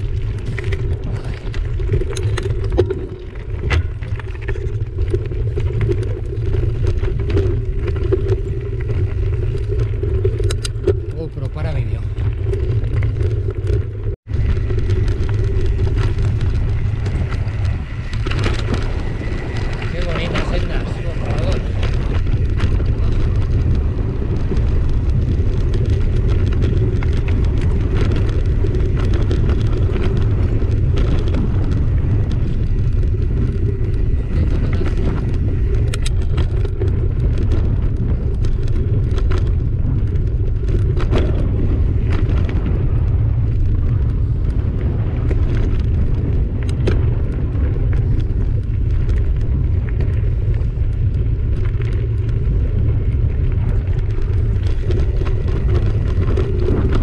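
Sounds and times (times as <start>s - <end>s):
bike tyres rumbling on dirt trail: 0.0s - 57.0s
wheels knocking on stones: 0.0s - 57.0s
wind on microphone: 0.0s - 57.0s.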